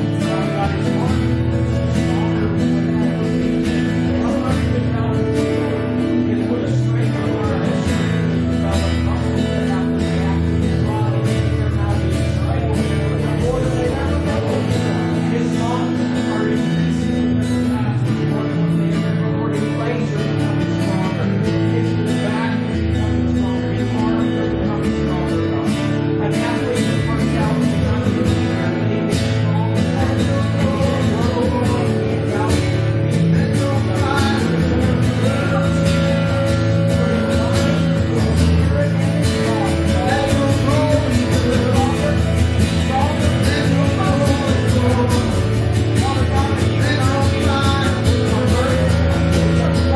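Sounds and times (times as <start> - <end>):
guitar chords: 0.0 - 49.9.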